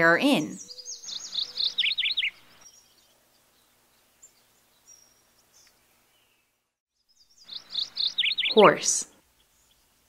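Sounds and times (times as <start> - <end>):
faint high bird chirps: 0.5 - 10.0.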